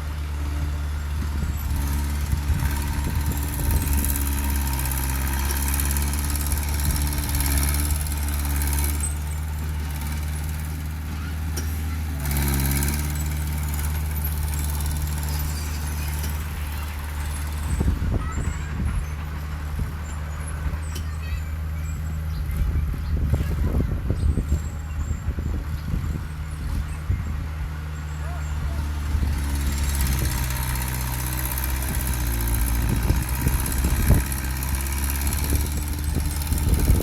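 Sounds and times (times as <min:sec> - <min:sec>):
heavy diesel engine under load: 0:00.0 - 0:37.0.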